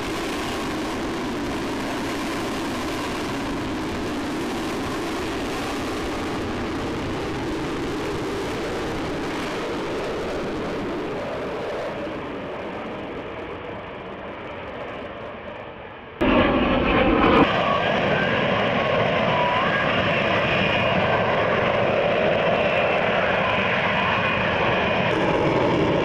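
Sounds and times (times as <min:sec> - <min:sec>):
fighter jet flying overhead: 0:00.0 - 0:26.0.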